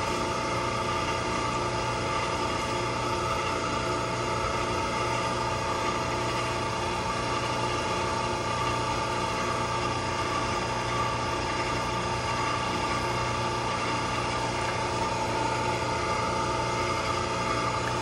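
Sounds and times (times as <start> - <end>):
machinery hum with steady tones: 0.0 - 18.0.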